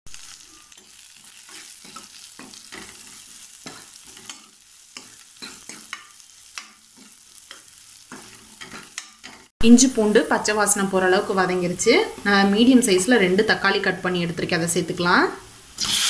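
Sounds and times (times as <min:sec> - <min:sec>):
onions sizzling in hot oil: 0:00.1 - 0:16.0.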